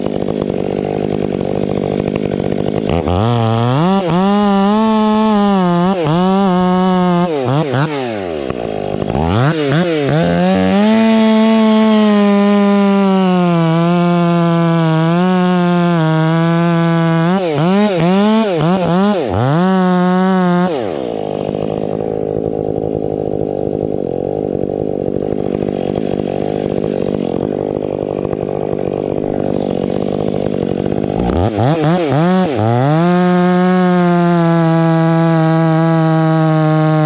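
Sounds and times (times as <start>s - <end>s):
chainsaw revving and idling: 0.0s - 37.0s.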